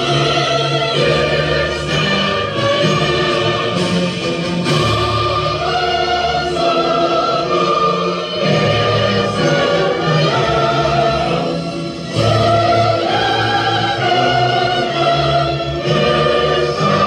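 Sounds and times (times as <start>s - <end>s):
choir singing long notes: 0.0s - 17.0s
orchestral accompaniment: 0.0s - 17.0s.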